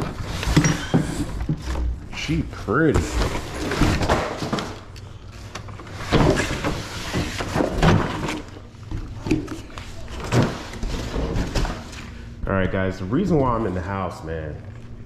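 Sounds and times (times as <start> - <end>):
handling knocks and scrapes: 0.0 - 14.0
low steady hum: 0.0 - 15.0.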